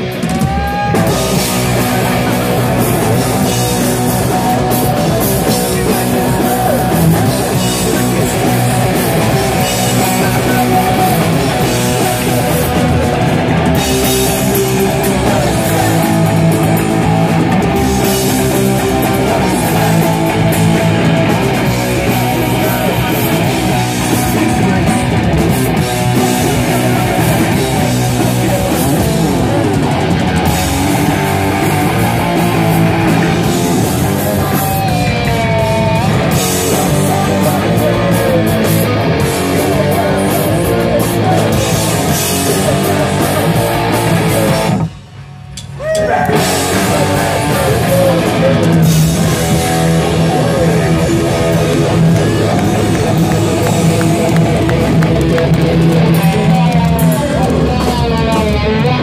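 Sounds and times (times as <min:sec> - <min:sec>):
bass guitar: 0:00.0 - 0:59.0
distorted electric guitar: 0:00.0 - 0:59.0
drum kit: 0:00.0 - 0:59.0.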